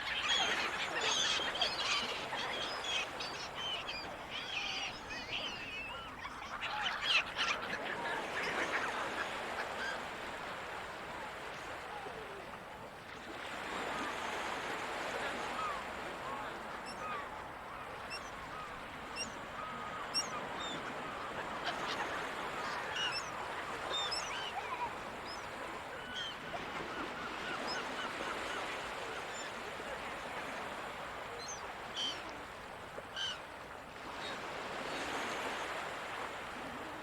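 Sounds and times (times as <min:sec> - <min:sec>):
seagulls calling: 0:00.0 - 0:10.7, 0:14.6 - 0:32.5, 0:33.1 - 0:36.8
surf washing: 0:00.0 - 0:37.0.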